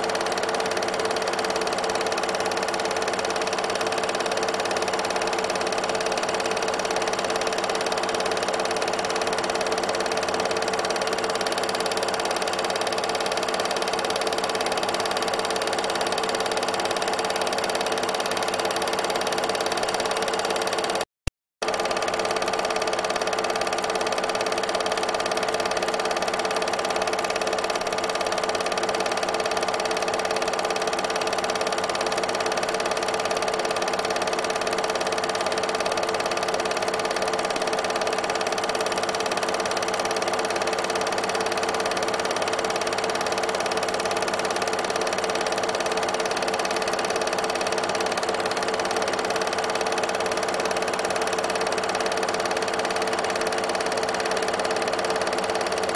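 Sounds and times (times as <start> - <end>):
film projector whirring: 0.0 - 21.0, 21.6 - 55.9.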